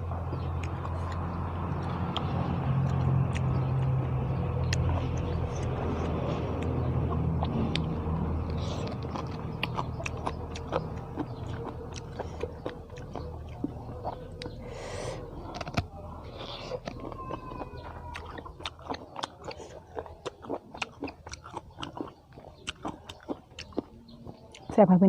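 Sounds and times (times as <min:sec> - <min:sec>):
chewing and crunching: 0:00.0 - 0:25.0
low vehicle rumble: 0:00.0 - 0:25.0.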